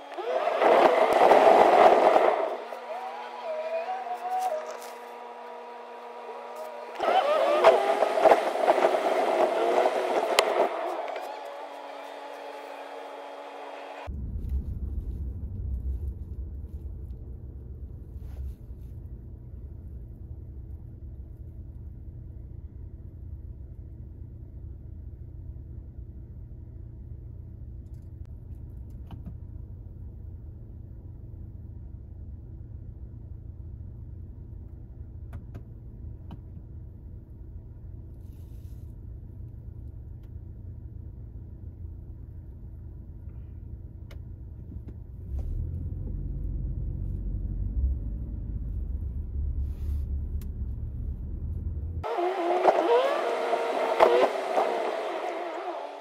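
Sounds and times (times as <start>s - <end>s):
car cabin engine and road rumble: 0.0s - 56.0s.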